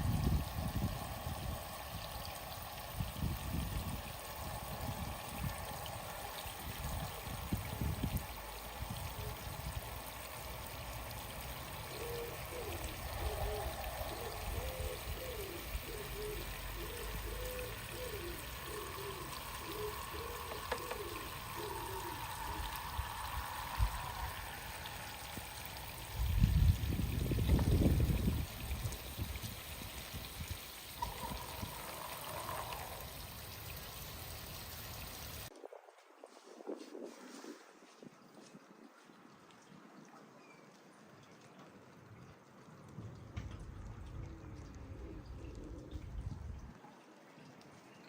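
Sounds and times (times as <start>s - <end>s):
water pouring and trickling: 0.0s - 48.0s.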